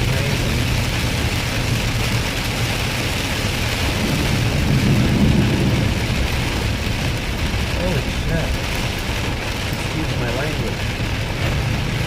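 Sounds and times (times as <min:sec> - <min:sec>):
heavy rain on vehicle: 0:00.0 - 0:12.0
road and engine rumble: 0:00.0 - 0:12.0.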